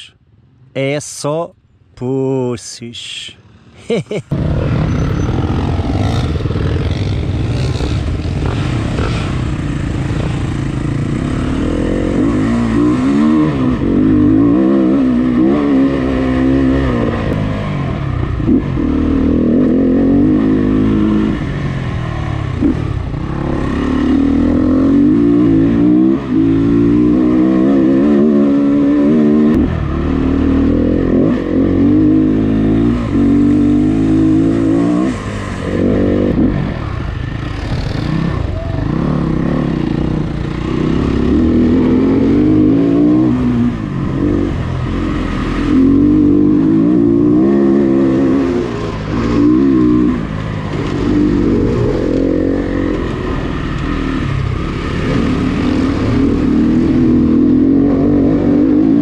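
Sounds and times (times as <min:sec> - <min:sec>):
dirt bike engine revving: 0:03.8 - 0:59.0.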